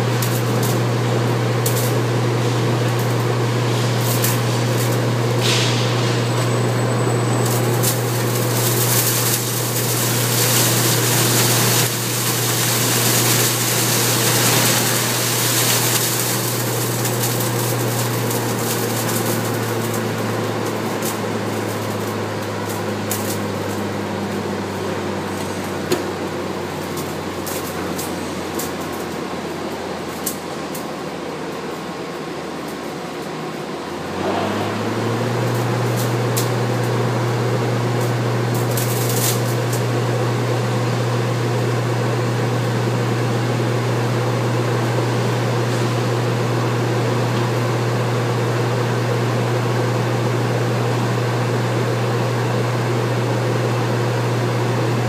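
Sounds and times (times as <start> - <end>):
machine loud low hum: 0.0 - 55.0.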